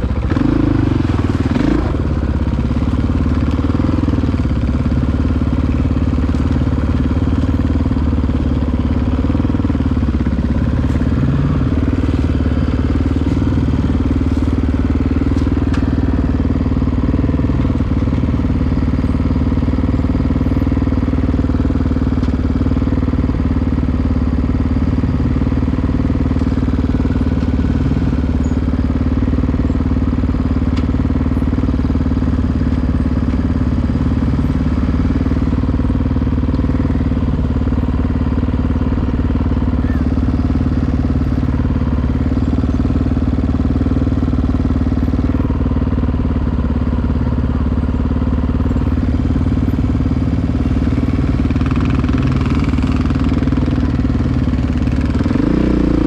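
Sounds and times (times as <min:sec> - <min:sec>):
dirt bike engine idling: 0:00.0 - 0:56.0.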